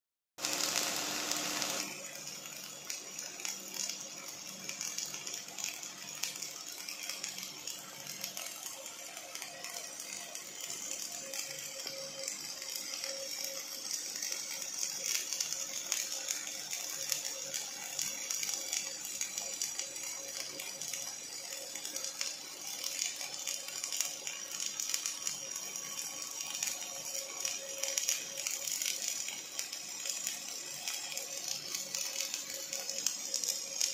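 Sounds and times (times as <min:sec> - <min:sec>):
welding arc crackling: 0:00.4 - 0:33.9.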